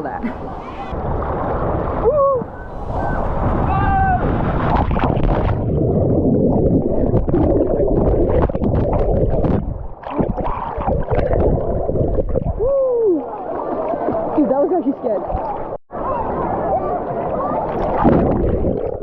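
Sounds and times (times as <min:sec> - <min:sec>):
rushing water in a slide: 0:00.4 - 0:14.4, 0:15.2 - 0:19.0.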